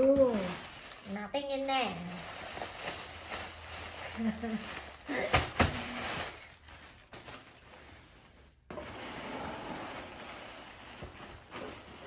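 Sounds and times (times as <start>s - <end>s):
plastic packing rustling: 0.0s - 12.0s.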